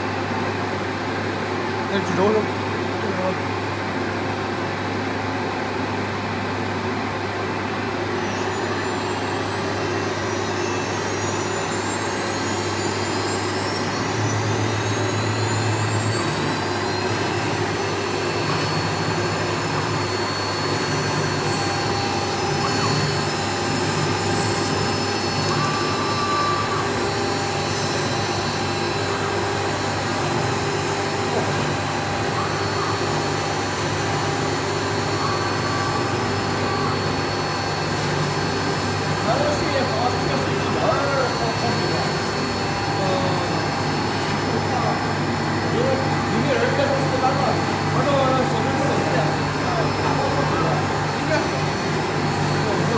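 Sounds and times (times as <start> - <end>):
droning machine hum: 0.0 - 52.9
router spindle whine: 0.0 - 52.9.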